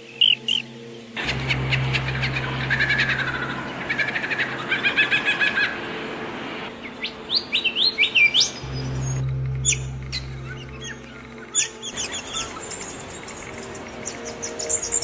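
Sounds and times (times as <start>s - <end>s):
songbirds chirping: 0.0s - 6.0s, 6.6s - 15.0s
low steady hum: 1.2s - 7.3s, 8.5s - 15.0s.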